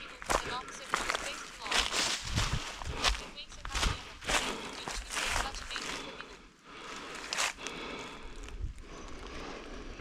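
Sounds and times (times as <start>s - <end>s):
vegetation rustling and crunching: 0.0s - 9.5s
footsteps through undergrowth: 0.0s - 9.7s.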